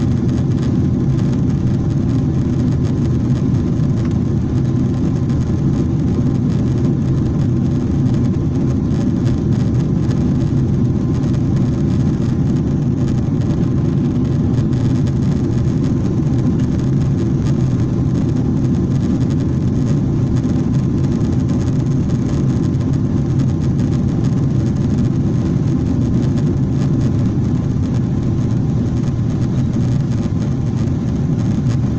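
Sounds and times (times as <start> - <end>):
airplane cabin engine rumble: 0.0 - 31.9.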